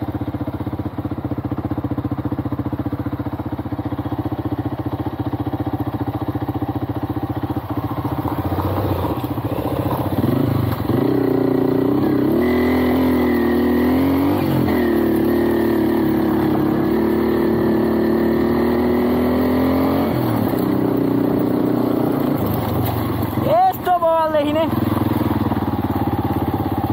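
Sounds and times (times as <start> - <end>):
small motorcycle engine: 0.0 - 26.9.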